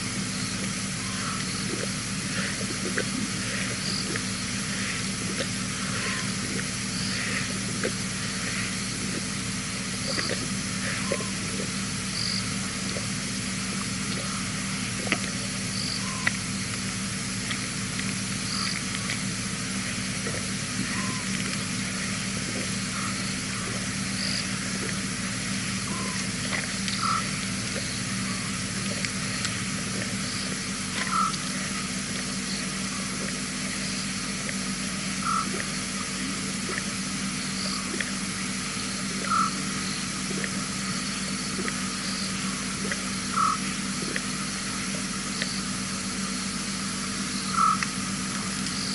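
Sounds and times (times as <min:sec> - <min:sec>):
frogs and insects chorus: 0:00.0 - 0:48.9
steady hiss and low hum: 0:00.0 - 0:48.9.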